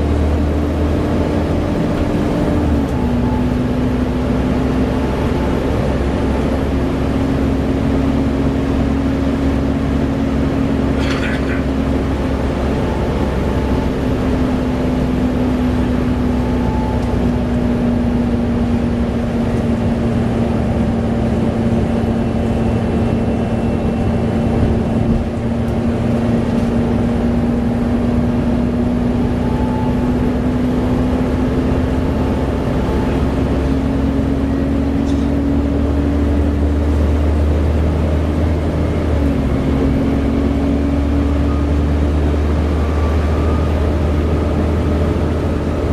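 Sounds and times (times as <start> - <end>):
bus diesel engine drone: 0.0 - 45.9
engine cooling fan whine: 2.0 - 45.9.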